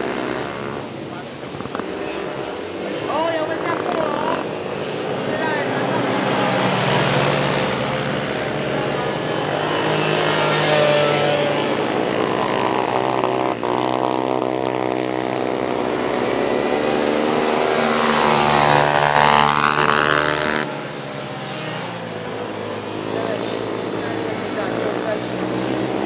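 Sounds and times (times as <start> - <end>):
racing quad engines revving: 0.0 - 26.0.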